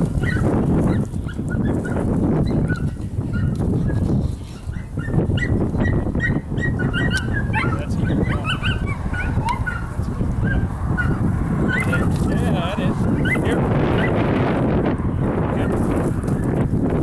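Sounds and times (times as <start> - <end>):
dogs barking and yipping: 0.0 - 16.6.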